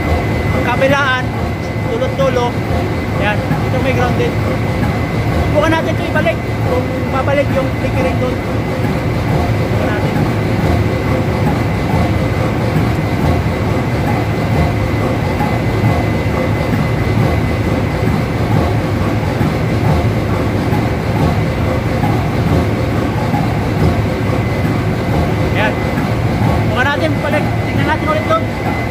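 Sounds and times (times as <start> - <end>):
ship engine machinery rumble: 0.0 - 28.9.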